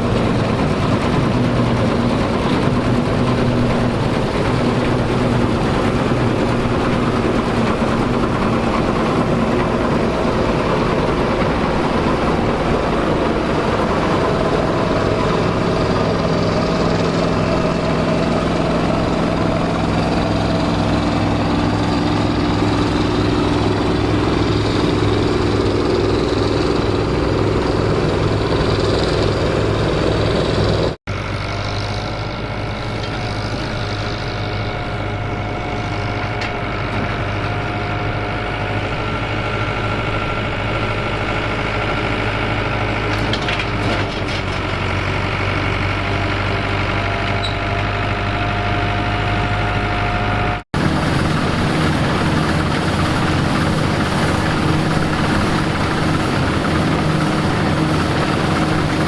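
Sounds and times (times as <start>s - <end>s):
farm machinery engines running: 0.0s - 59.0s.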